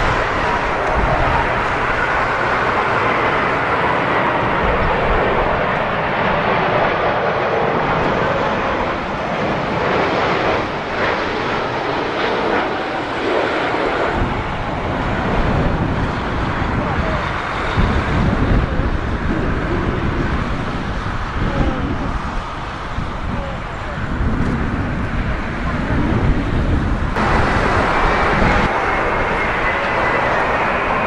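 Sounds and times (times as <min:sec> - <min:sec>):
jet airliner engines passing: 0:00.0 - 0:31.0.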